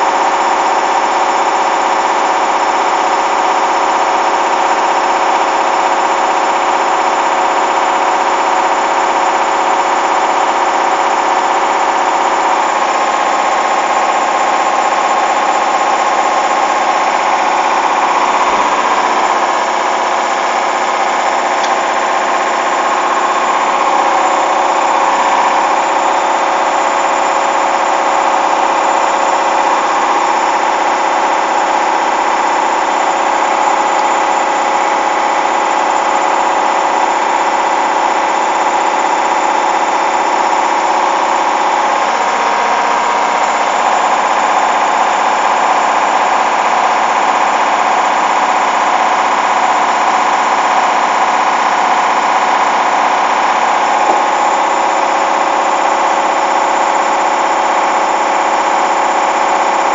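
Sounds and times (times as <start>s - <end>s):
washing machine spinning whine: 0.0s - 59.9s.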